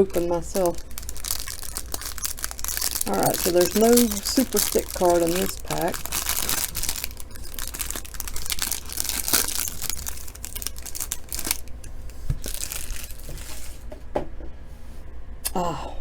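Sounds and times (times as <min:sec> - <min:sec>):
card pack packaging crinkling and tearing: 0:00.0 - 0:13.9.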